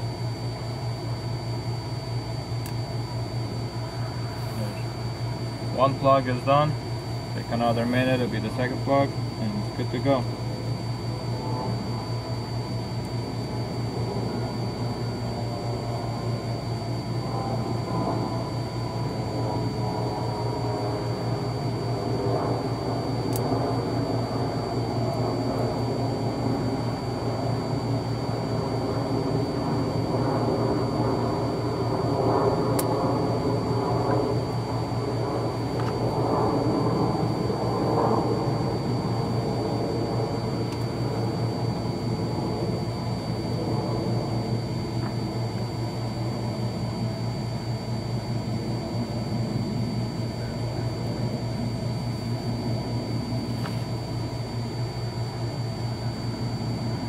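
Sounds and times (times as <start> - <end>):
fan humming with high whine: 0.0 - 57.0.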